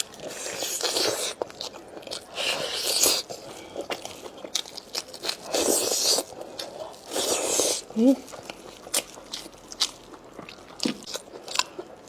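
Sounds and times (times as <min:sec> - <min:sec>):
person biting and chewing: 0:00.0 - 0:12.0.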